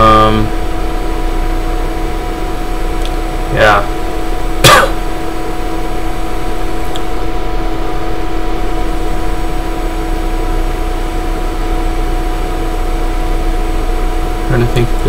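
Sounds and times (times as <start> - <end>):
background hum and hiss: 0.0 - 15.0
constant tones: 0.0 - 15.0.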